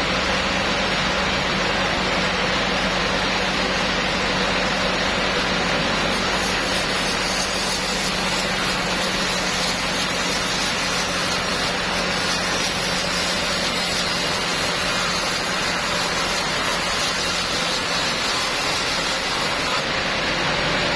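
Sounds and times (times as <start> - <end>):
sawmill machinery running: 0.0 - 20.9.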